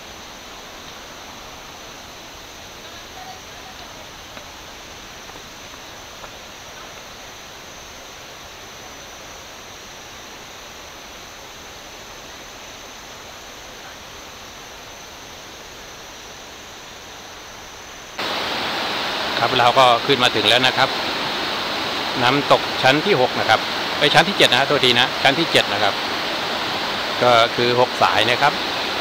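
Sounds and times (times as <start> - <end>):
stream and waterfall rushing: 0.0 - 29.0.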